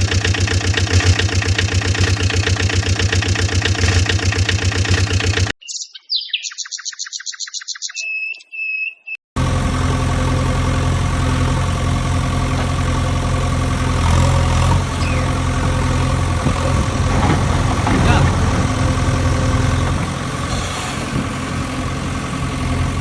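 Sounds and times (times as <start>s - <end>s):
recorded engine idling sound: 0.0s - 5.6s, 9.4s - 23.0s.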